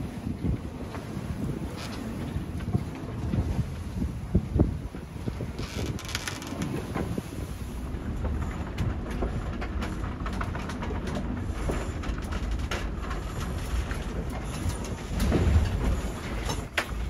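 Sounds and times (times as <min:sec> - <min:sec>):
boat knocking and rattling: 0:00.0 - 0:17.0
wind and water rushing: 0:00.0 - 0:17.0
low rumble: 0:02.2 - 0:17.0.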